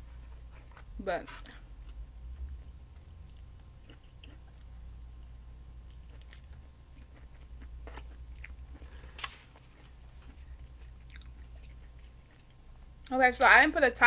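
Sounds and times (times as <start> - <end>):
steady low hum: 0.0 - 14.0
person chewing food: 0.2 - 12.6.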